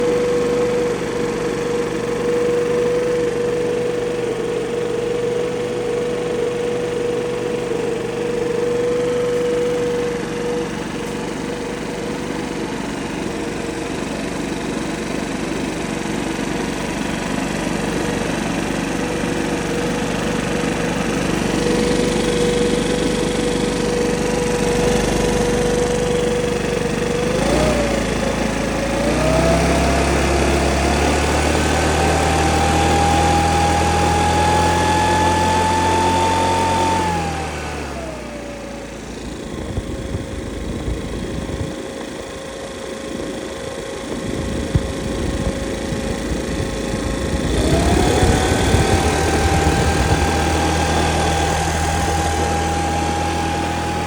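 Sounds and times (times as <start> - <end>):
backpack blower engine running: 0.0 - 54.0.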